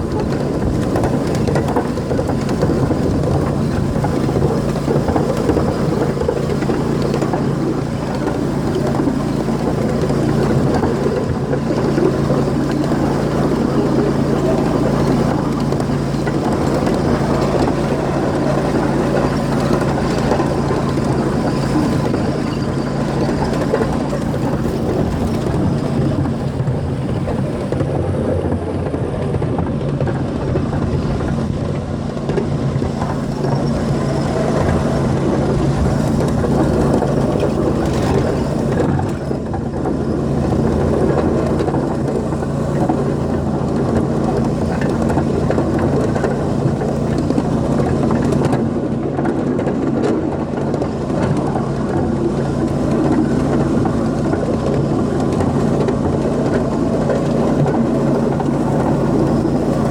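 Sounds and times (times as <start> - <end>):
mechanical drone: 0.0 - 59.9.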